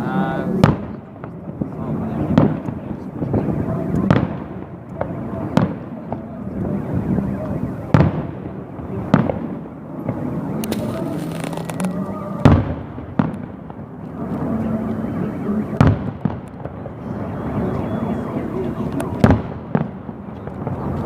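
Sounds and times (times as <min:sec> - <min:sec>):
fireworks crackling: 0:00.0 - 0:21.0
fireworks bangs: 0:00.4 - 0:14.8, 0:15.5 - 0:21.0.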